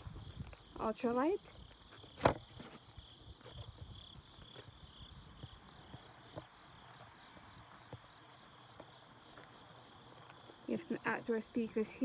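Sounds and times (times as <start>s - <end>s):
insects chirping: 0.0s - 11.8s.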